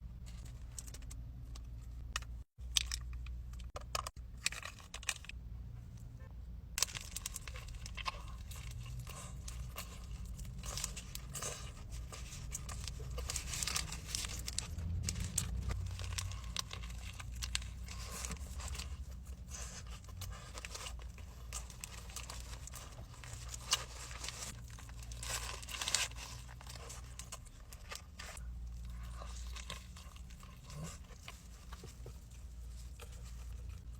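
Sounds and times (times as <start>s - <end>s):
paper wrapper crinkling and tearing: 2.6s - 5.4s, 6.8s - 33.9s.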